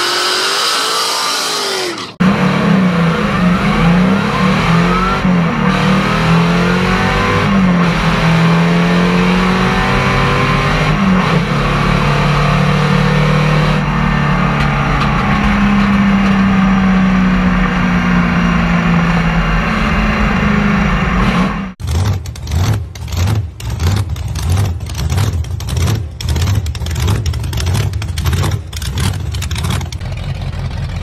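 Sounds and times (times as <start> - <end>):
car engine running loud: 0.0 - 31.0.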